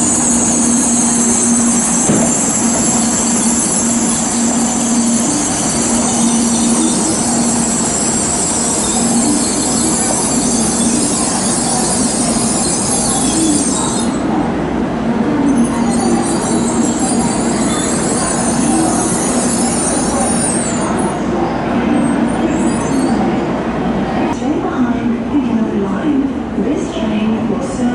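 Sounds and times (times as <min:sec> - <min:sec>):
train hissing at platform: 0:00.0 - 0:24.4.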